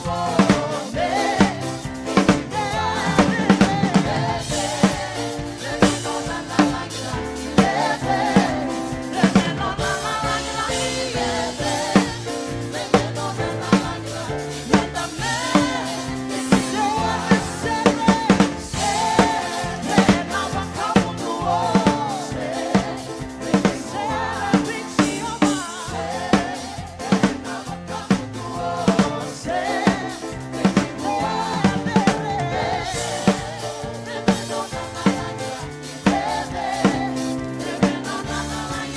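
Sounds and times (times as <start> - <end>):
drum kit beat: 0.0 - 38.9
people singing: 0.0 - 38.9
worship band music: 0.0 - 38.9.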